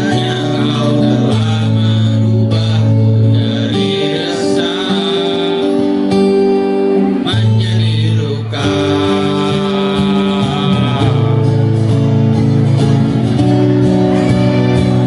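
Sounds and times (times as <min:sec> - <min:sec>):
guitar: 0:00.0 - 0:15.0
person singing: 0:00.0 - 0:15.0.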